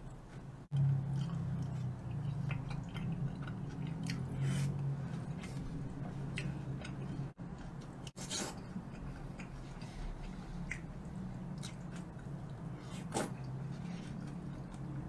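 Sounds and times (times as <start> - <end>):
low steady hum: 0.0 - 15.0
man chewing food: 0.1 - 15.0.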